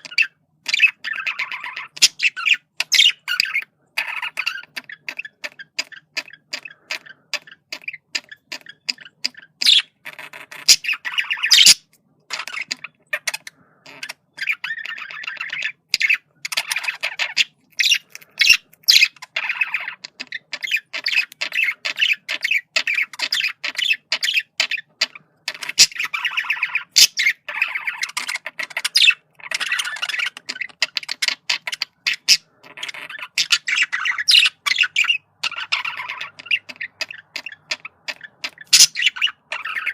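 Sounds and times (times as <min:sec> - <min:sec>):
budgerigar chattering: 0:00.0 - 0:39.9
budgerigar squawk: 0:00.0 - 0:39.9.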